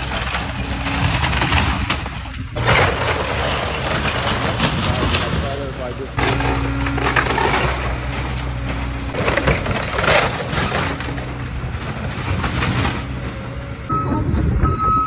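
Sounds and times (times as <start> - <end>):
wood and debris crashing: 0.0 - 13.9
excavator diesel engine running: 0.0 - 15.0.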